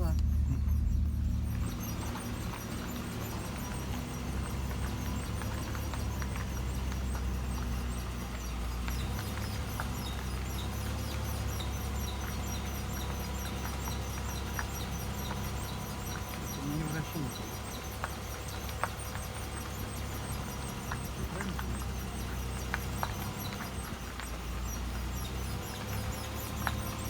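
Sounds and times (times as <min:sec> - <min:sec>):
rapid high-pitched squeaking: 0:00.0 - 0:27.0
steady low hum: 0:00.0 - 0:27.0.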